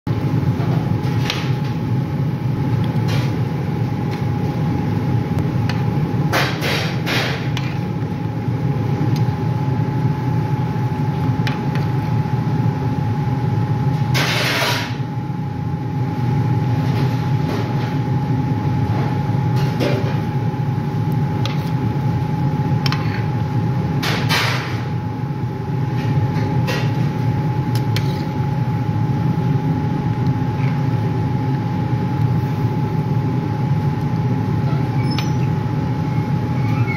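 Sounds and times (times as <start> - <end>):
low machine hum: 0.1 - 36.9.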